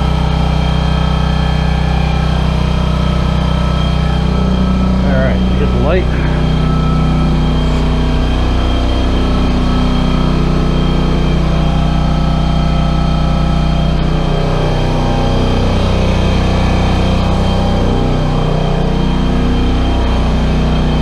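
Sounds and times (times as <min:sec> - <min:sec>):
air compressor humming: 0:00.0 - 0:21.0.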